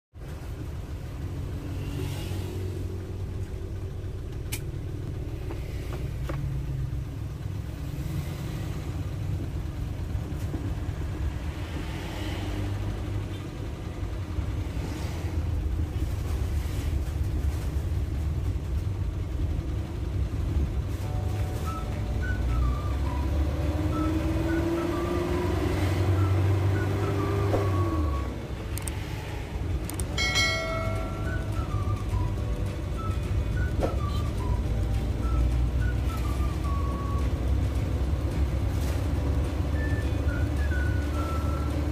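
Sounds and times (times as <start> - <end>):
vehicle engine and road noise: 0.1 - 41.9.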